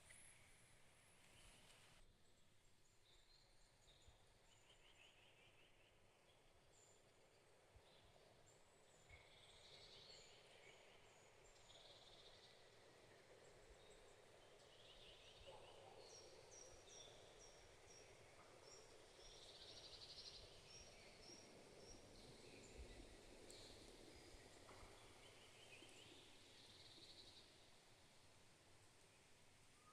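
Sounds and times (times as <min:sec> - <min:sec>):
soft background hiss: 0:00.0 - 0:29.9.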